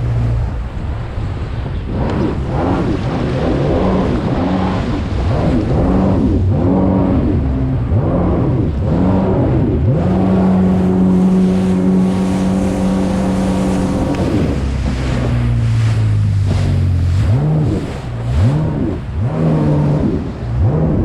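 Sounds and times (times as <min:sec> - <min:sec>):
jet ski engine revving: 0:00.0 - 0:21.0.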